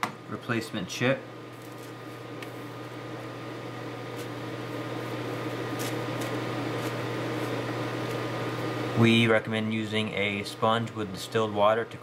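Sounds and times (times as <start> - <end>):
electrical hum with whirring hiss: 0.0 - 12.0.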